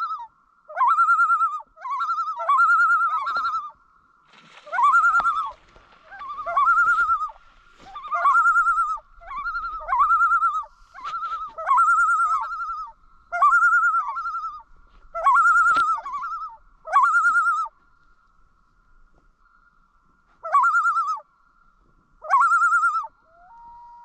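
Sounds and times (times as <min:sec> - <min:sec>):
loon tremolo call: 0:00.0 - 0:03.8, 0:04.7 - 0:17.8, 0:20.4 - 0:21.3, 0:22.2 - 0:24.0.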